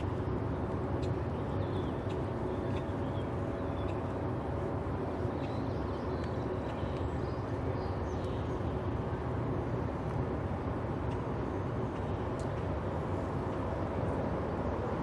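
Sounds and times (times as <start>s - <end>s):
faint machinery hum: 0.0s - 15.0s.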